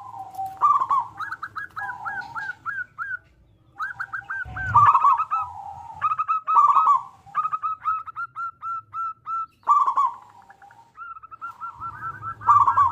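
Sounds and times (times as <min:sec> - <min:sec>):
dove cooing: 0:00.0 - 0:12.9.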